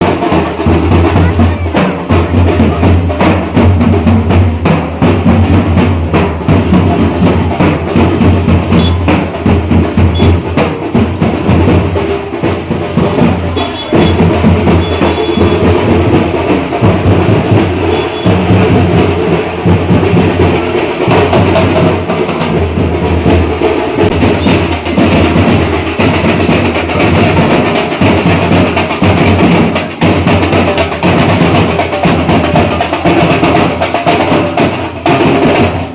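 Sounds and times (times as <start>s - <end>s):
fast loud drumming: 0.0s - 35.9s.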